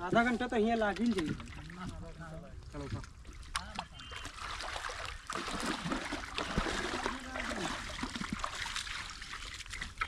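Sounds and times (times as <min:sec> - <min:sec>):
pond water splashing and trickling: 0:00.0 - 0:10.0.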